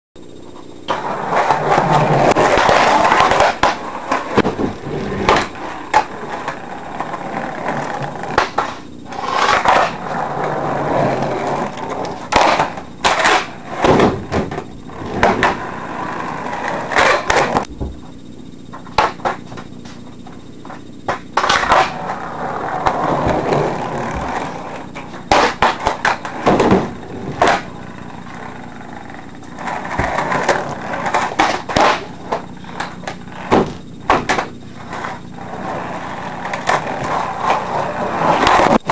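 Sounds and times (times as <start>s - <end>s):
skateboard wheels rolling: 0.7s - 38.9s
skateboard clacking on floor: 0.9s - 18.0s, 18.7s - 20.0s, 20.6s - 38.9s.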